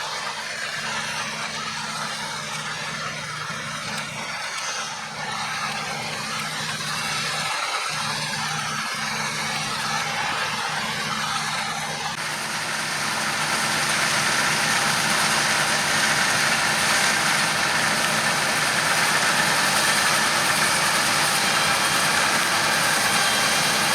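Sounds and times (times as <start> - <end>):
diesel engine running: 0.0 - 23.9
mechanical rush: 0.0 - 23.9.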